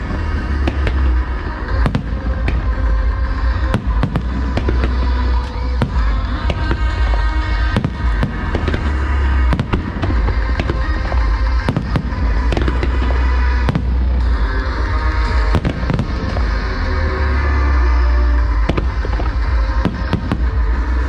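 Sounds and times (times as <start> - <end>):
fireworks bangs: 0.0 - 21.0
music with heavy bass: 0.0 - 21.0.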